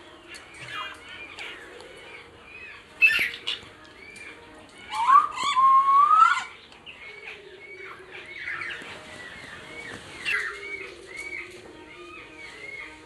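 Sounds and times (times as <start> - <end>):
cockatiels chirping: 0.3 - 13.0.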